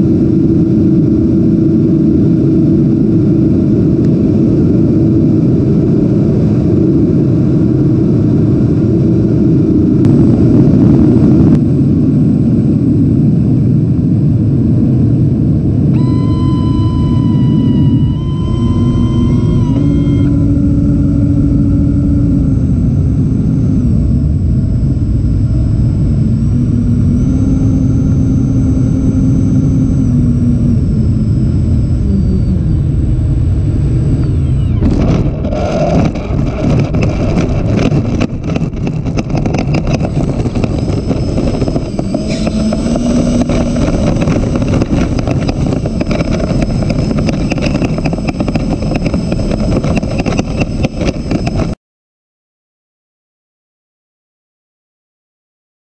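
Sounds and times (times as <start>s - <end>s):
electric ducted fans whining: 0.0s - 51.8s.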